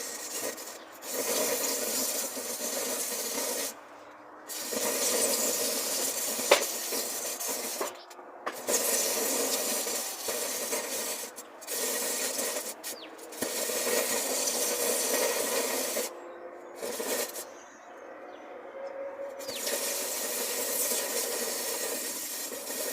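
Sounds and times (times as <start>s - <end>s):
burning battery hissing: 0.0s - 3.8s, 4.4s - 16.1s, 16.7s - 17.8s, 19.3s - 22.9s.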